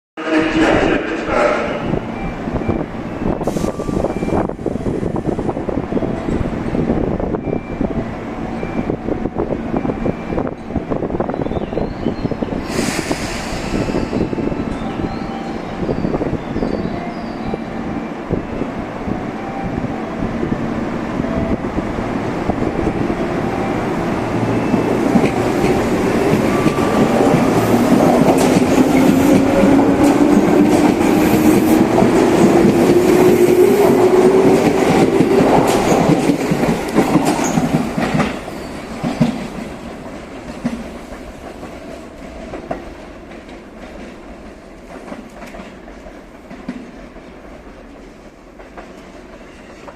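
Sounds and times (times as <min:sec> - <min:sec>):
electric train passing: 0:00.2 - 0:49.9.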